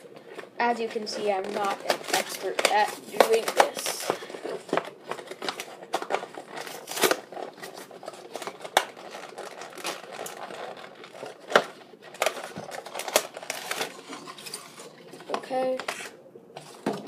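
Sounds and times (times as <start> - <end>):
toy packaging clicks and crinkles: 0.2 - 17.0.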